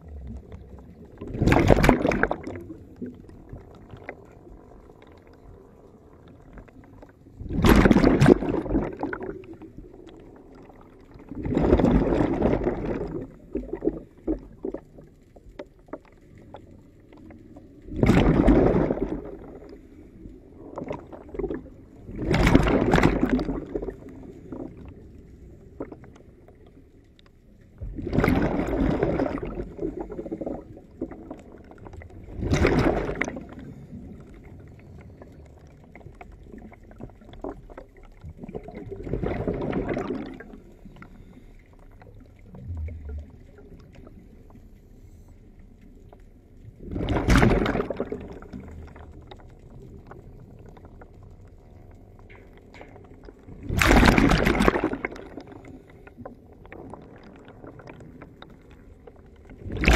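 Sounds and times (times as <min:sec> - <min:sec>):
water rushing and gurgling: 0:00.0 - 0:59.9.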